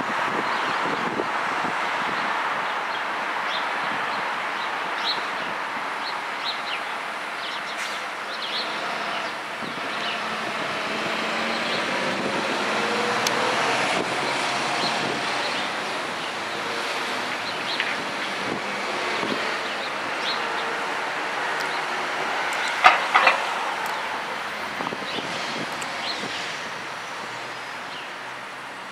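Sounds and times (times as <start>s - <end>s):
traffic noise: 0.0s - 28.9s.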